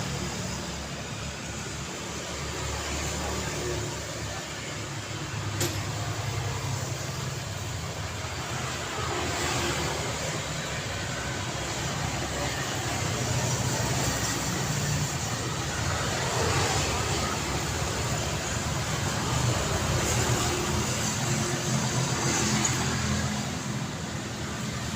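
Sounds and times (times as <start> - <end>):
passing vehicles: 0.0 - 24.9.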